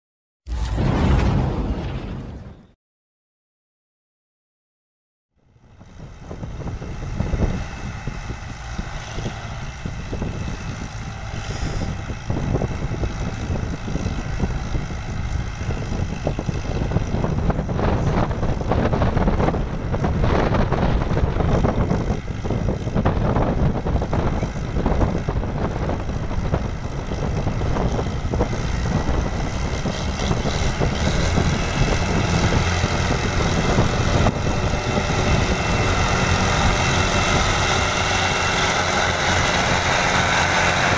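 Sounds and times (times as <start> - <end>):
diesel tractor engine under load: 5.4 - 40.9.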